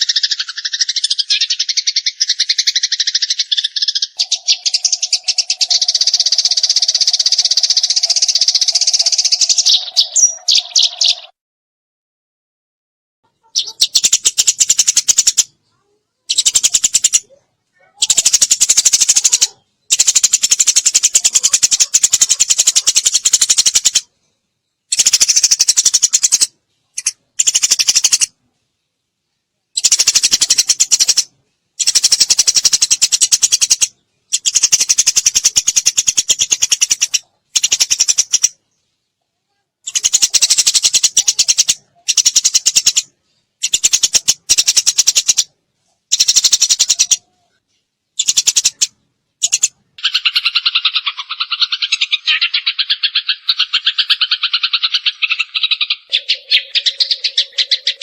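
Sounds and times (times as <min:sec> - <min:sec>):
sparrow chattering chirps: 0:00.0 - 0:11.3, 0:13.4 - 0:24.1, 0:24.8 - 0:28.4, 0:29.7 - 0:38.6, 0:39.8 - 0:47.4, 0:48.2 - 0:58.0.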